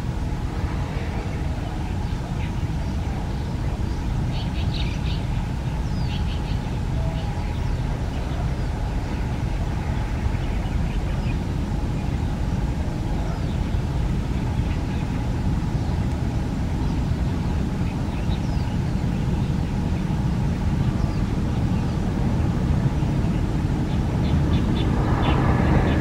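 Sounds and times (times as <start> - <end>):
turboprop airliner drone: 0.0 - 26.0.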